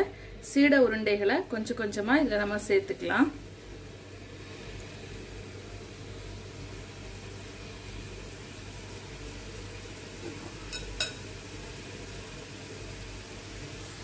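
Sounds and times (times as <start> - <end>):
steady low hum: 0.0 - 13.9
hot oil sizzling and bubbling: 1.5 - 14.0.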